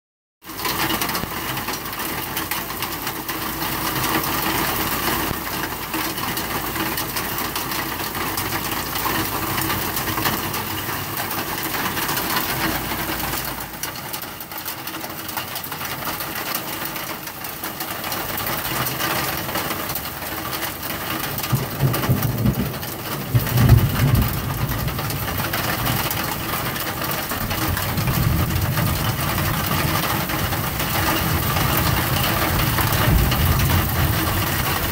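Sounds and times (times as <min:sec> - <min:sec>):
hail and rain on wooden deck: 0:00.4 - 0:34.9.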